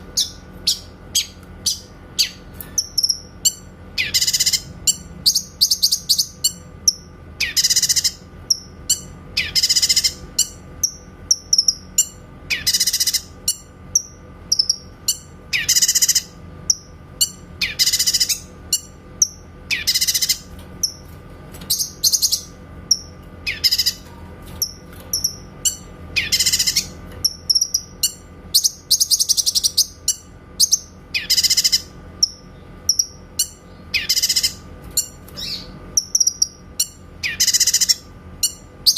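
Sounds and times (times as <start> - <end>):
bird singing stuttering phrases: 0.0 - 38.9
soft bird chirps: 0.0 - 38.9.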